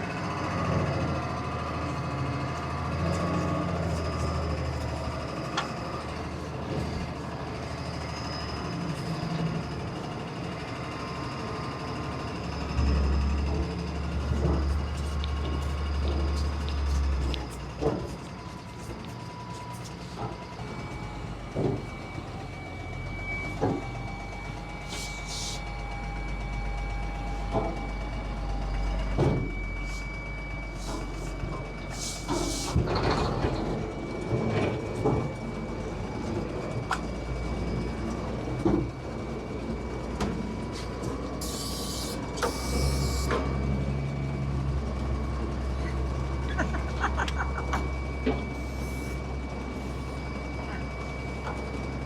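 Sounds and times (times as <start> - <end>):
heavy truck engine under load: 0.0 - 52.0.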